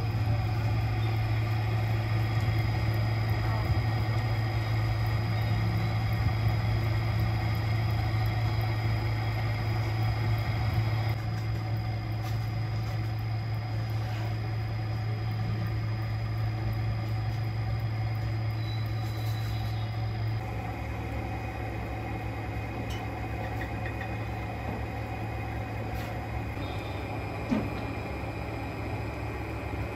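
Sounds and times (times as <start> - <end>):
pottery wheel electric hum: 0.0 - 29.9.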